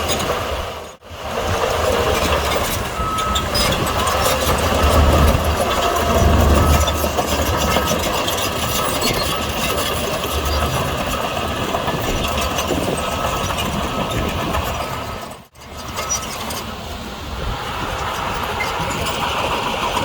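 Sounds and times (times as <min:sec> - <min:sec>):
diesel earthmoving machinery running: 0:00.0 - 0:20.0.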